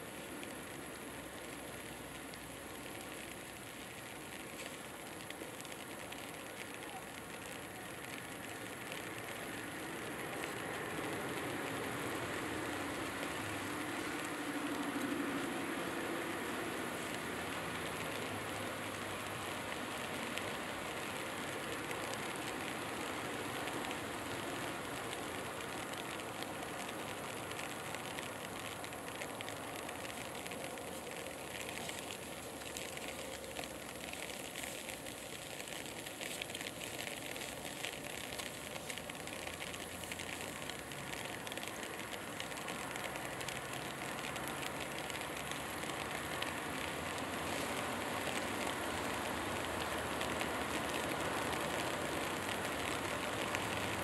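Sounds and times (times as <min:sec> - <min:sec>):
constant hiss: 0:00.0 - 0:54.0.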